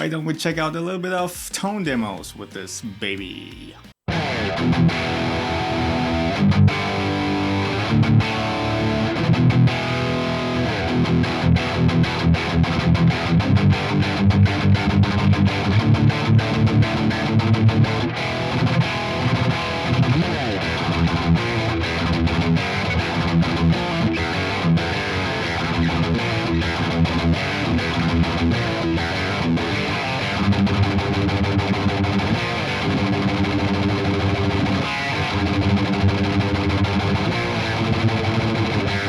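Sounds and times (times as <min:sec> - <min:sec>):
distorted electric guitar riffs: 0:00.0 - 0:39.0.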